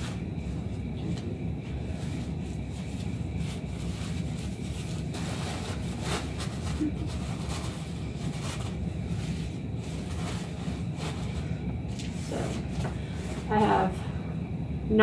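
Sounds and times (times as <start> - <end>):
diapers rustling: 0.0 - 13.9
low background hum: 0.0 - 15.0.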